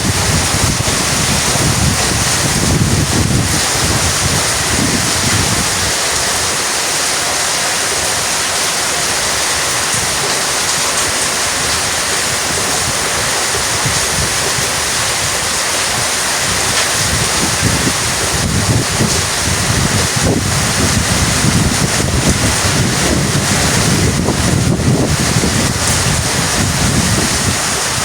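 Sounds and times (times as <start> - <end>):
heavy rain downpour: 0.0 - 28.0.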